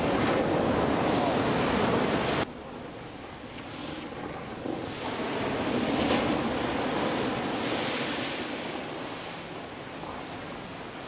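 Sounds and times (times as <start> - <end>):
ocean surf on rocky shore: 0.0 - 11.0.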